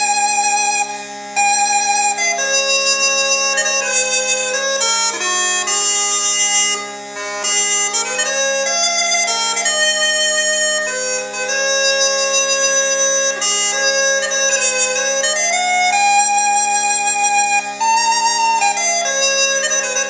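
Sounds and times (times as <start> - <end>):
bagpipe drones: 0.0 - 20.0
smallpipes playing slow melody: 0.0 - 20.0.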